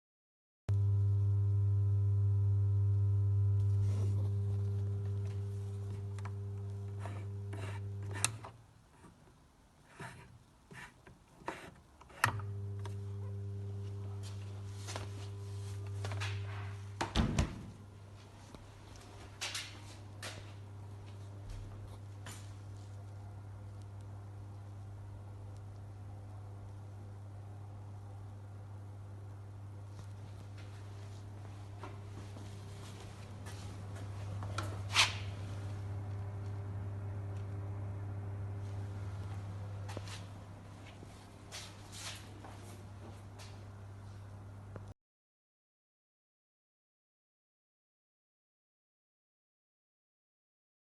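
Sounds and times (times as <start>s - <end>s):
refrigerator compressor humming: 0.7s - 8.4s, 11.5s - 44.7s.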